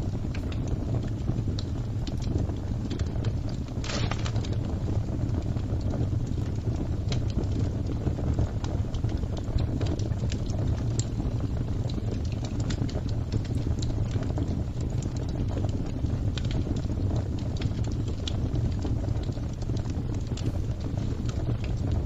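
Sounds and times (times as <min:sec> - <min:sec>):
flames rumbling: 0:00.0 - 0:22.0
wood fire pops and snaps: 0:00.0 - 0:22.0.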